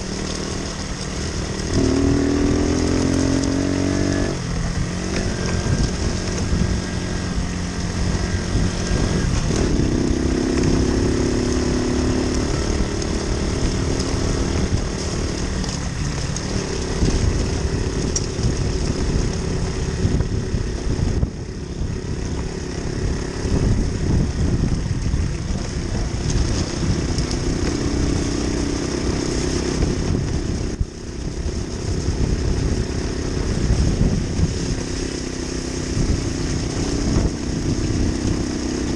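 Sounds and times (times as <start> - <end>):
moped engine running: 0.0 - 38.9.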